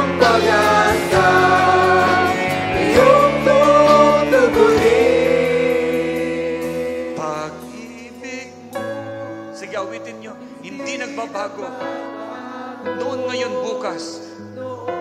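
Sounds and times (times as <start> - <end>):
band playing: 0.0 - 12.2
singers holding long notes: 0.0 - 15.0.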